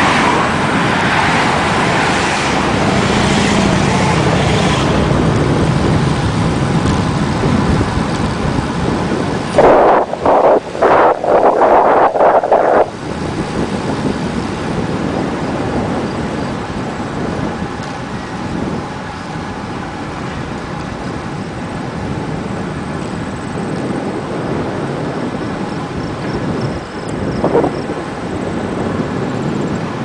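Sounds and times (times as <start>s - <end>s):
wind and road noise: 0.0s - 30.0s
wind gust buffeting: 0.0s - 30.0s.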